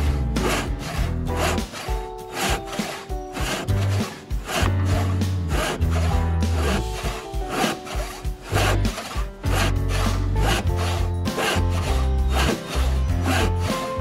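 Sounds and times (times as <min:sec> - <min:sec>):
background music with bass: 0:00.0 - 0:14.0
saw rasping through log: 0:00.0 - 0:14.0.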